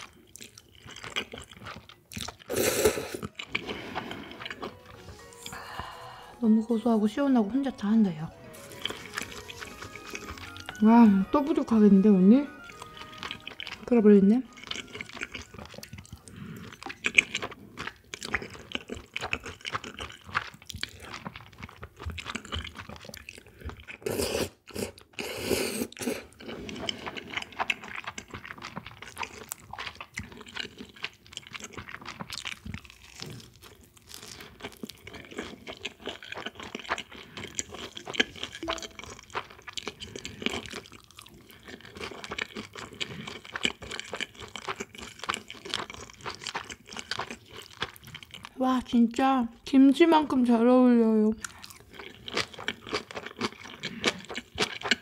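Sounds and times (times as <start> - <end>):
chewing and crunching food: 0.0 - 5.7, 7.1 - 11.8, 12.4 - 55.0.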